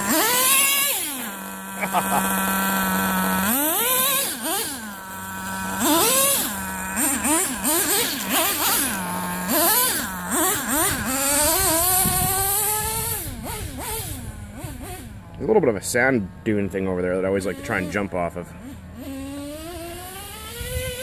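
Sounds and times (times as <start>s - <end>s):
model engine idling: 0.0s - 21.0s
model engine throttle blips: 0.0s - 21.0s.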